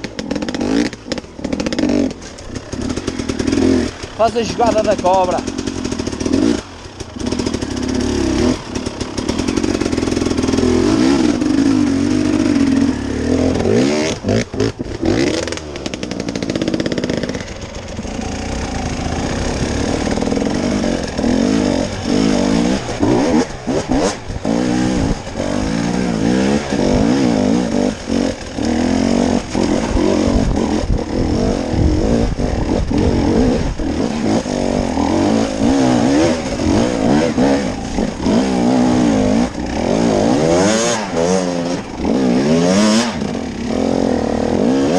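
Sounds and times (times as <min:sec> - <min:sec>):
off-road vehicle engine revving: 0:00.0 - 0:44.9.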